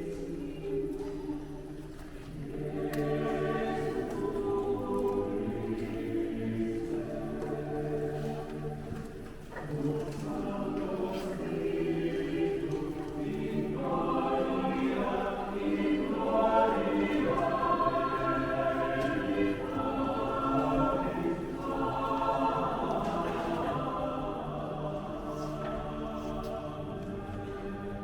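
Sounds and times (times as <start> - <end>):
choir singing unaccompanied: 0.0 - 28.0.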